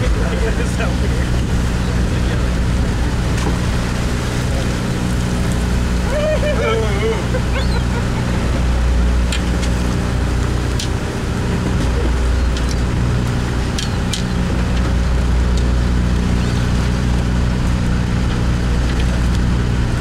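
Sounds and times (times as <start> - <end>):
boat diesel engine droning: 0.0 - 20.0.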